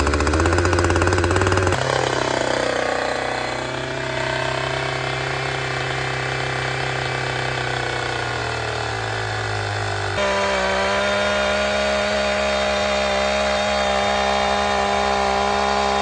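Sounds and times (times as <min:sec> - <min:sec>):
chainsaw idling: 0:00.0 - 0:16.0.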